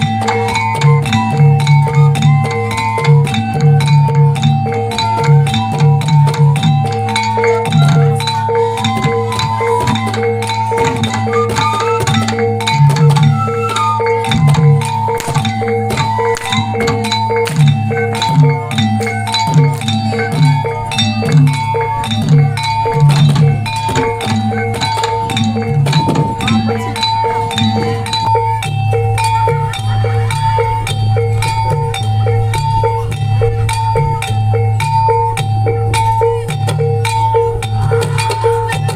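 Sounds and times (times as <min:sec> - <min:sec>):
hand drum strokes: 0:00.0 - 0:38.9
tuned gongs striking: 0:00.0 - 0:38.9.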